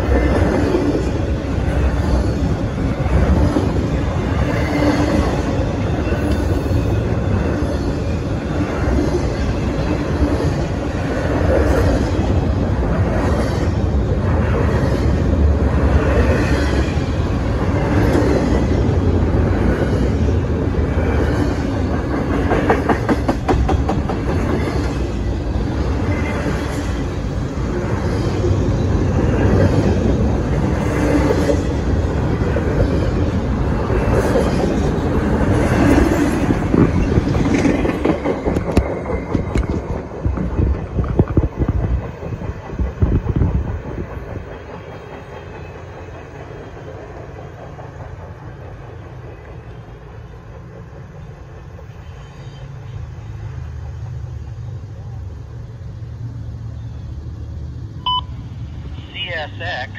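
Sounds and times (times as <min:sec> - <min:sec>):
wheels clacking over rail joints: 0:00.0 - 0:27.2, 0:28.3 - 0:51.3
steel wheels rumbling on rail: 0:00.0 - 0:59.9.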